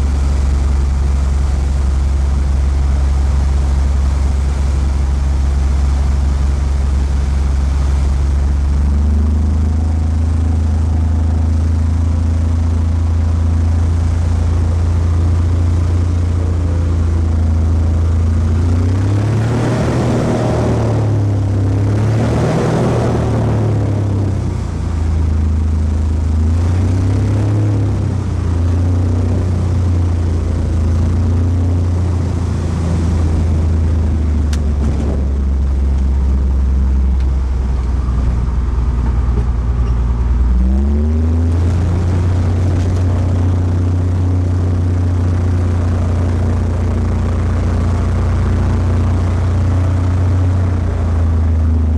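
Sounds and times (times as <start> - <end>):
propeller plane engine: 0.0 - 51.9.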